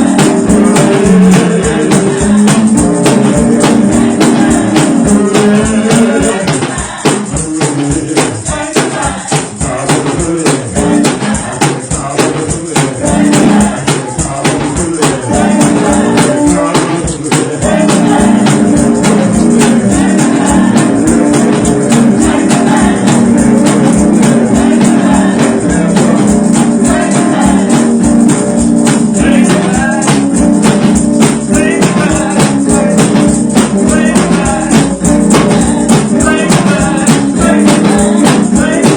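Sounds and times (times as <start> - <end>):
percussion fast beat: 0.0 - 38.9
voices singing gospel: 0.0 - 38.9.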